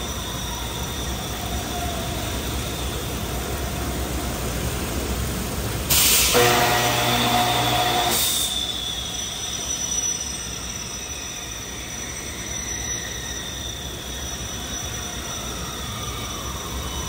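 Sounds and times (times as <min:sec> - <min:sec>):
high-pitched squealing whine: 0:00.0 - 0:05.1, 0:05.9 - 0:17.0
machinery hissing: 0:00.0 - 0:17.0.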